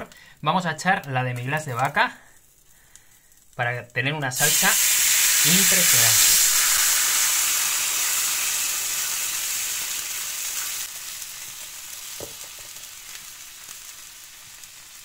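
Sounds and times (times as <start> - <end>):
sauce sizzling in frying pan: 0.0 - 15.0.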